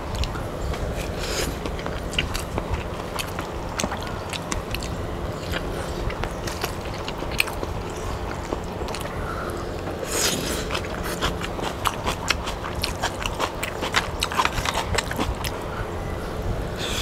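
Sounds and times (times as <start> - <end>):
chewing and mouth noises: 0.0 - 15.9
steady low hum: 0.0 - 17.0.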